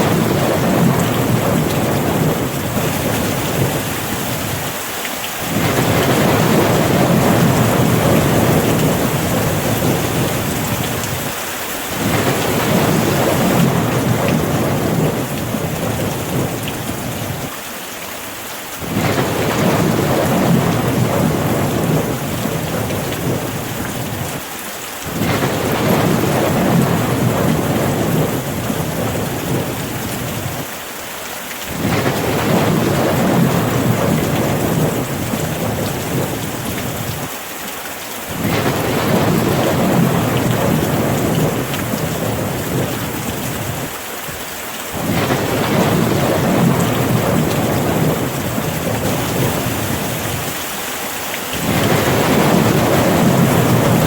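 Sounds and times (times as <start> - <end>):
thunder rumbles: 0.0 - 4.8, 5.4 - 17.5, 18.8 - 24.4, 25.1 - 30.7, 31.7 - 37.3, 38.3 - 43.9, 44.9 - 50.6, 51.5 - 54.0
steady rain: 0.0 - 54.0.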